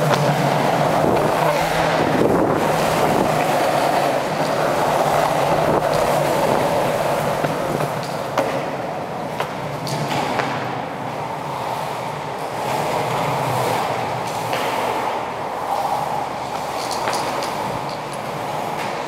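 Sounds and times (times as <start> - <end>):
longboard wheels rolling on concrete: 0.0 - 19.0.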